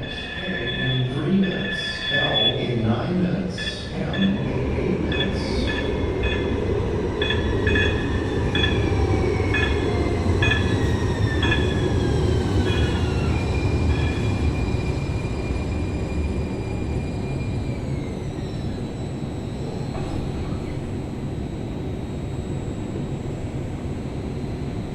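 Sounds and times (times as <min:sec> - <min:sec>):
high wheel squeals: 0:00.0 - 0:24.6
falling whines of slowing train: 0:00.0 - 0:24.9
train wheels rumbling on rail: 0:00.0 - 0:24.9.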